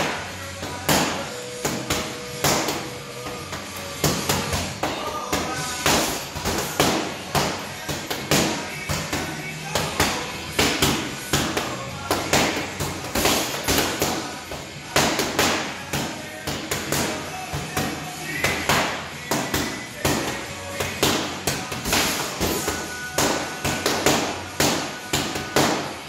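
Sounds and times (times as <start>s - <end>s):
boxing gloves hitting mitts: 0.0s - 26.0s.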